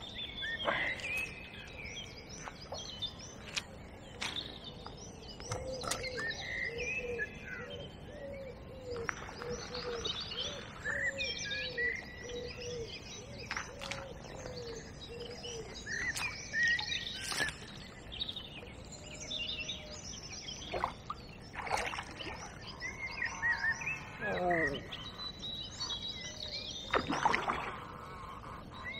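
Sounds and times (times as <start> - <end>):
birds singing: 0.0 - 28.9.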